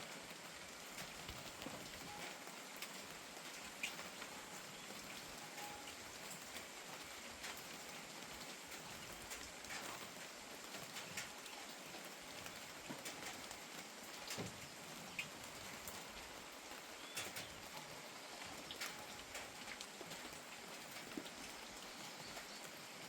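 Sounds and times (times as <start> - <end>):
gentle rain falling: 0.0 - 23.0.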